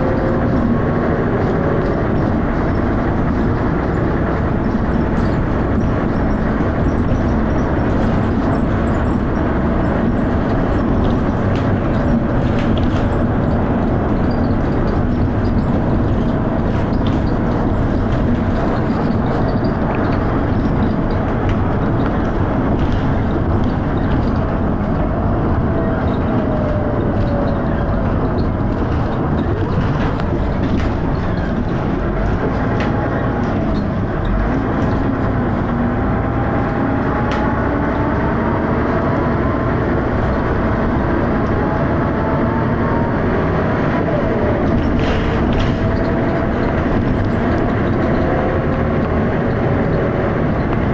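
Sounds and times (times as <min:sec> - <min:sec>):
bus diesel engine running: 0:00.0 - 0:50.9
continuous rattle: 0:00.0 - 0:50.9
road noise: 0:00.0 - 0:50.9.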